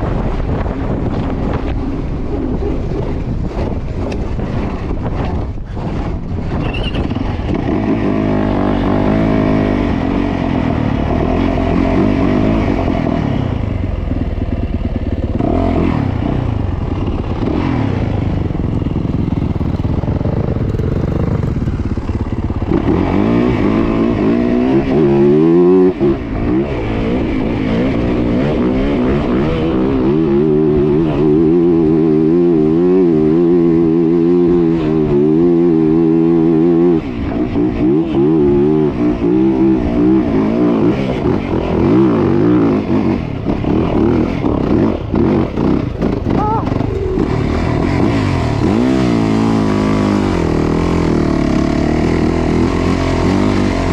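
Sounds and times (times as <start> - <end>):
dirt bike engine revving: 5.8 - 53.9.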